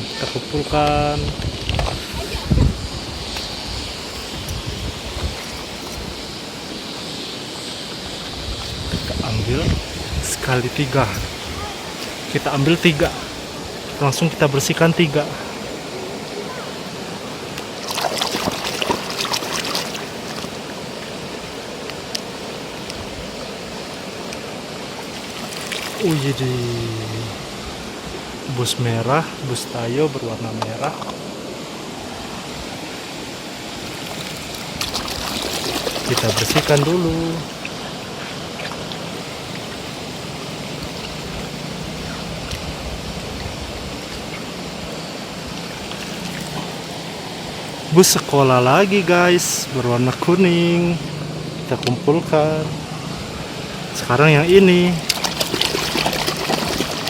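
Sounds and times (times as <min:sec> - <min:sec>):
running water: 0:00.0 - 0:57.0
splashing: 0:01.4 - 0:27.1, 0:33.4 - 0:57.0.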